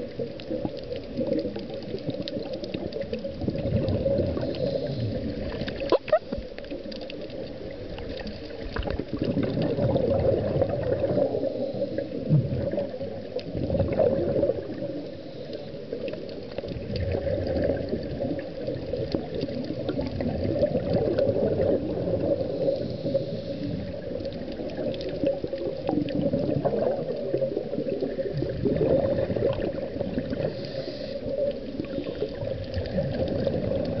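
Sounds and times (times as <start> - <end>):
underwater regulator bubbles gurgling: 0.0 - 34.0.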